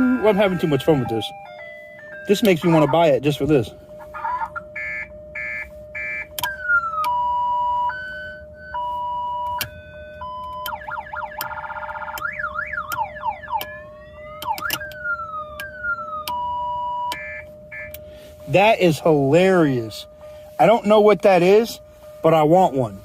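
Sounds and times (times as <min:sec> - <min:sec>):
constant steady tone: 0:00.0 - 0:23.0
electronic siren switching tones: 0:00.0 - 0:23.0.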